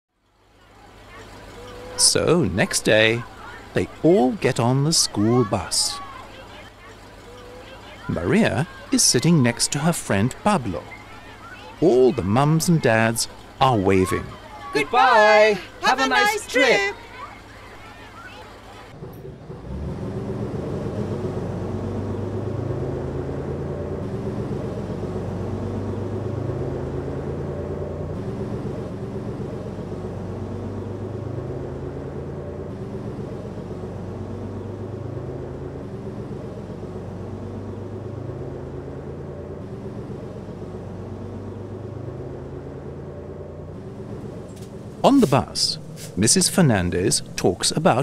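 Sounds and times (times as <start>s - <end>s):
bus engine running: 0.1s - 48.0s.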